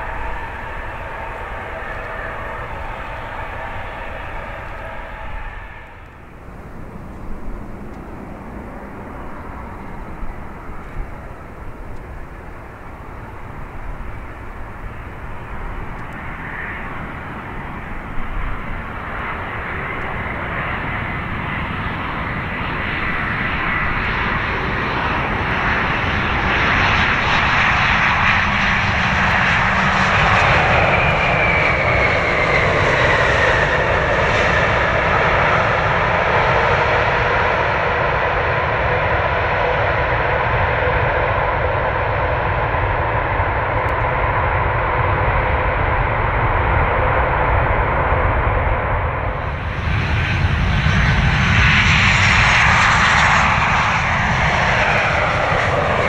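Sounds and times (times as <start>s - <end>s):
jet airliner engines passing: 0.0s - 56.0s.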